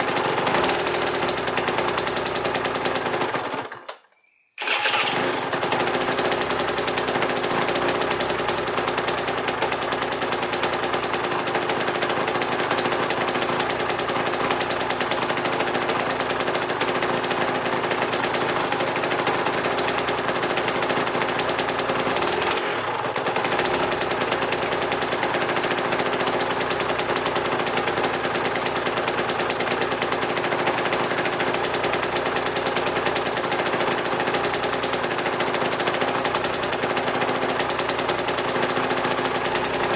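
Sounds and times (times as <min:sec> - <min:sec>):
two-stroke engine running: 0:00.0 - 0:03.9, 0:04.6 - 0:39.9.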